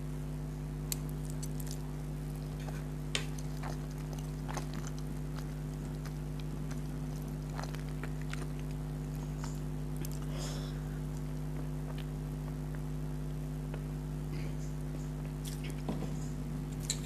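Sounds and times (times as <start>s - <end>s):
low electrical hum: 0.0s - 17.0s
wet chewing mouth sounds: 0.9s - 13.0s, 13.6s - 15.9s.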